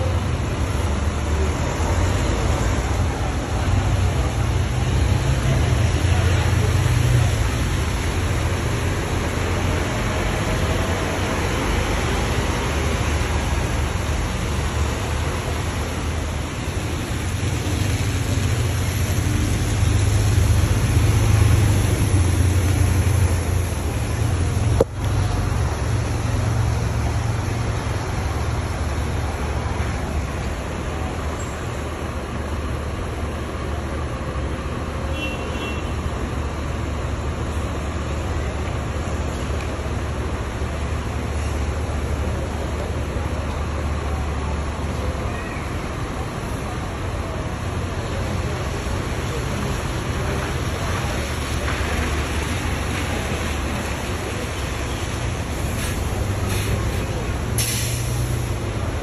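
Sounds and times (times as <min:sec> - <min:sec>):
bus engines rumbling: 0:00.0 - 0:59.0.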